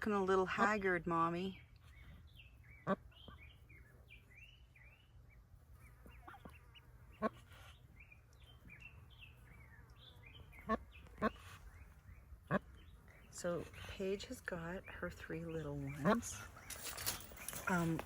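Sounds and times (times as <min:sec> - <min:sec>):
ducklings peeping: 0:00.6 - 0:18.0.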